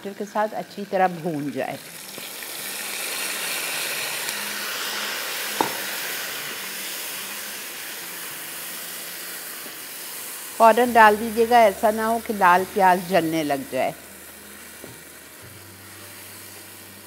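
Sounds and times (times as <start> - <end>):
tomatoes sizzling in hot oil: 0.0 - 17.0.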